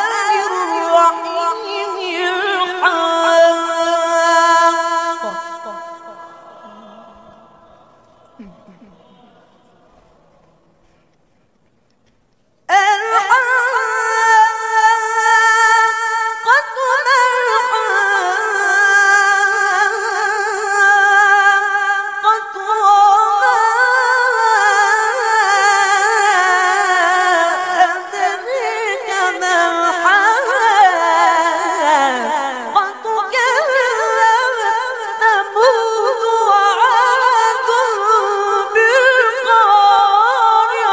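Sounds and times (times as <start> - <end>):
boy chanting recitation: 0.0 - 11.4, 12.7 - 40.9.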